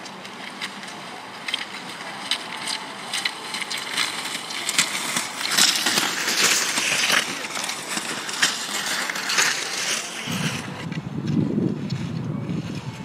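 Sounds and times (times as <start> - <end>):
ski poles crunching into snow: 0.0 - 10.9
skis sliding over snow: 0.0 - 13.0.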